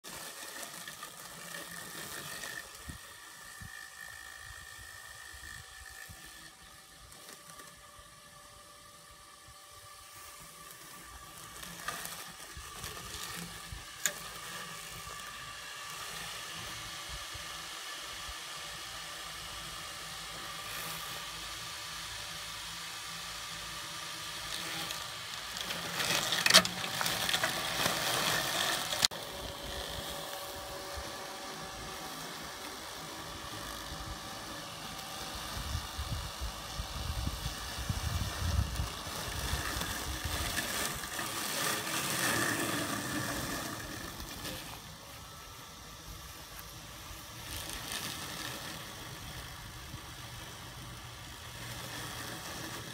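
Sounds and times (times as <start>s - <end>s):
robotic mower motors whirring: 0.0s - 52.9s.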